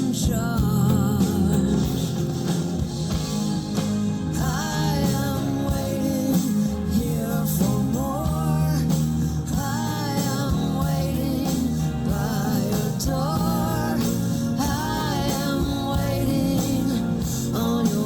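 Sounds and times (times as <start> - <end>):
song with singing and bass: 0.0 - 18.0.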